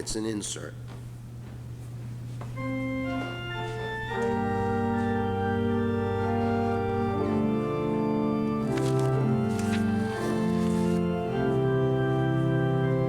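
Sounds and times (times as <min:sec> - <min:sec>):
church organ playing hymn: 0:02.2 - 0:13.0.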